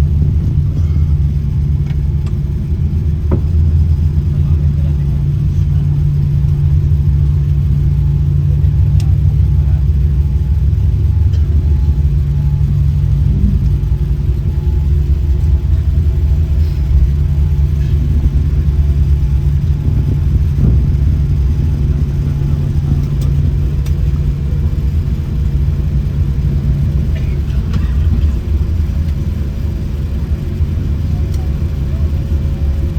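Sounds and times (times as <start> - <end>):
airliner cabin rumble: 0.0 - 32.9.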